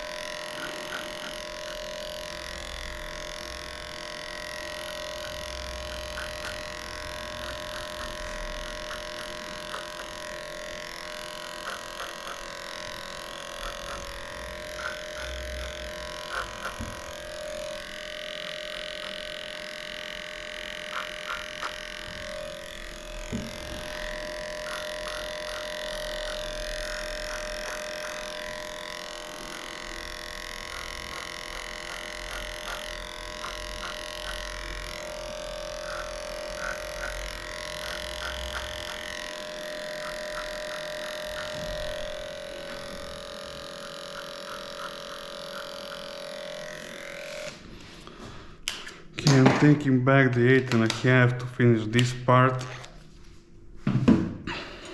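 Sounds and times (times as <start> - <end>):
electric clippers humming: 0.0 - 53.2.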